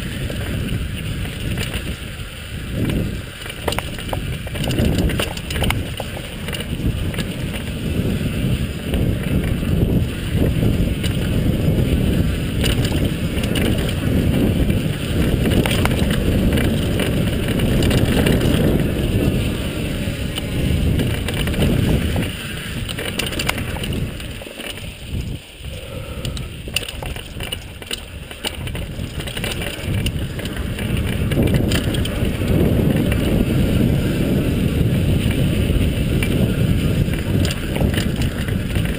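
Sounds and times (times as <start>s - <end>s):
bike rattles and clicks: 0.0s - 38.9s
tyres on dirt trail: 0.0s - 38.9s
wind buffeting microphone: 0.0s - 38.9s.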